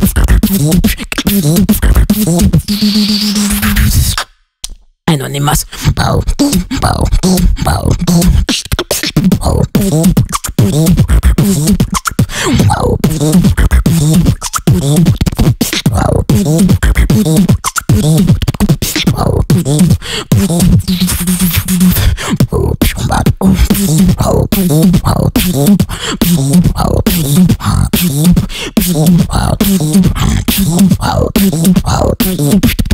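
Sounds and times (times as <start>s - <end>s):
person beatboxing: 0.0s - 4.3s, 5.1s - 32.9s.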